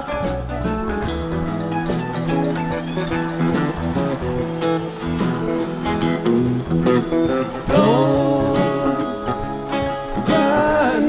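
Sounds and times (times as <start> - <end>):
electric guitar bent notes: 0.0 - 11.0
live rock band playing: 0.0 - 11.0.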